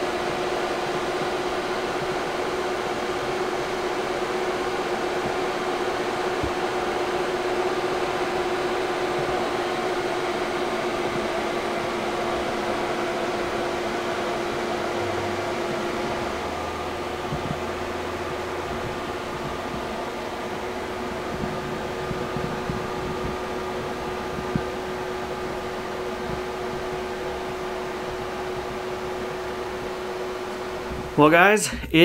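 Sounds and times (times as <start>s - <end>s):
mechanical whir: 0.0s - 31.2s
low hum: 4.8s - 32.0s.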